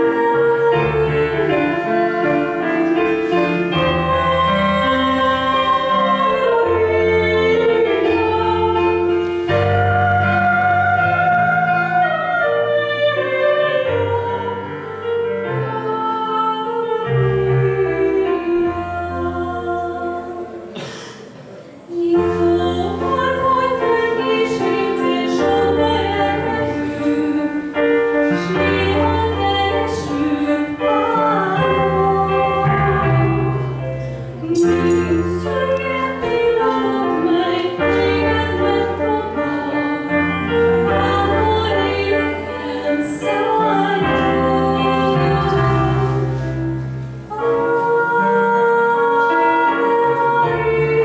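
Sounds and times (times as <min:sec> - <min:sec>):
woman singing into microphone: 0:00.0 - 0:21.1, 0:21.8 - 0:51.0.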